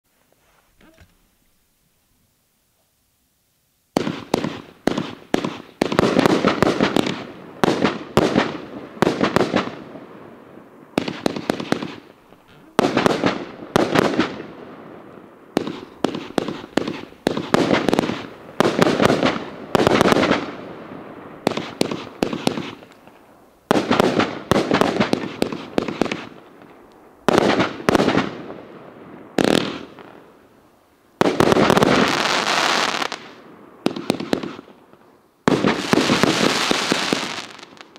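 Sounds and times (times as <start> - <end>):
fireworks hissing tails: 3.9 - 28.5, 29.2 - 34.8, 35.4 - 37.9
fireworks bursting bangs: 3.9 - 30.6, 31.2 - 37.9.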